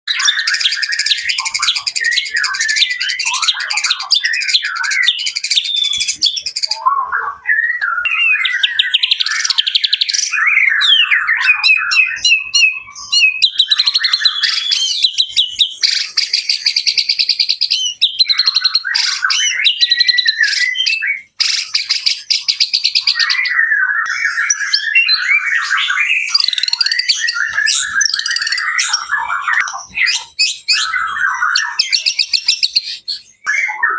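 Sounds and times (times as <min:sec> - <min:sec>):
bird whistled song: 0:00.1 - 0:33.9.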